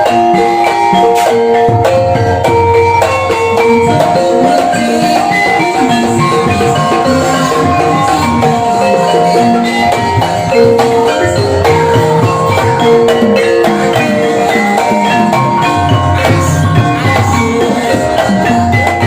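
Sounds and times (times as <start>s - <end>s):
drum strokes: 0.0s - 19.0s
tuned mallet percussion: 0.0s - 19.0s.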